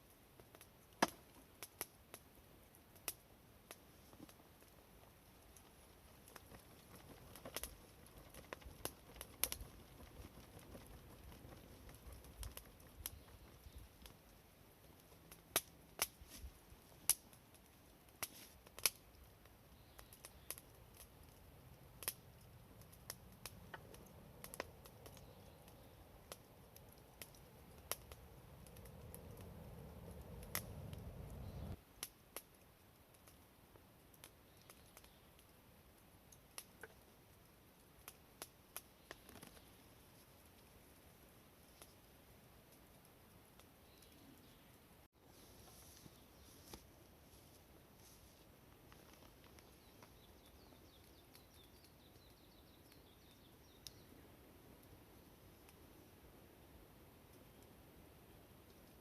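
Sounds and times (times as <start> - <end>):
fire snaps and pops: 0.0 - 44.8, 45.7 - 59.0
campfire crackling: 0.0 - 59.0.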